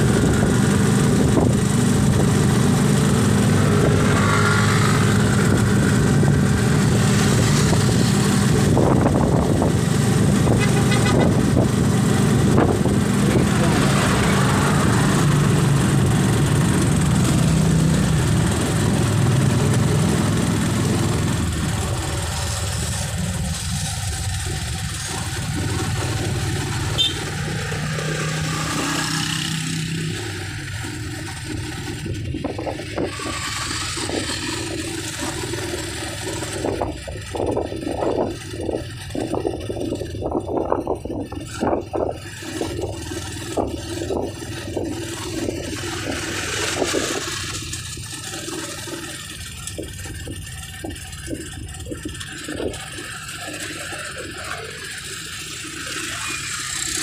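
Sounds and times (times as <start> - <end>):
engine hum: 0.0 - 57.0
road traffic noise: 0.0 - 57.0.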